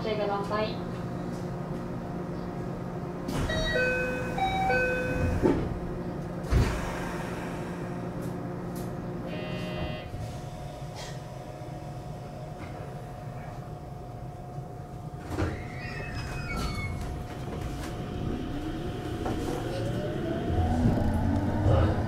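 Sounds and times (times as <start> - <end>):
electric train humming: 0.2 - 15.5, 16.2 - 22.0.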